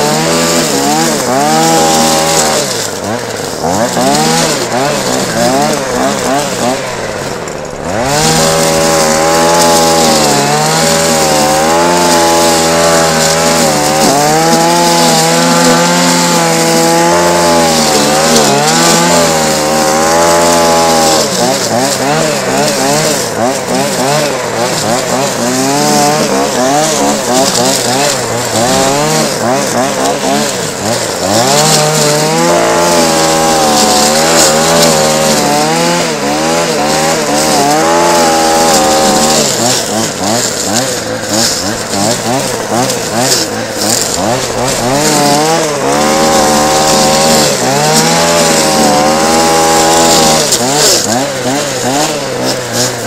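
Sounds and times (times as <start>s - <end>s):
brush cutter revving: 0.0s - 53.0s.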